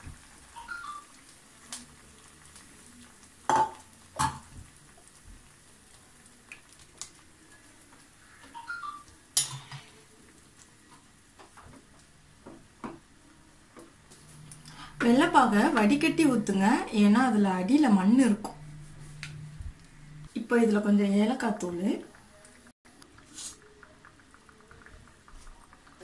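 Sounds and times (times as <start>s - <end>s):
low sizzle of boiling pan: 0.0s - 26.0s.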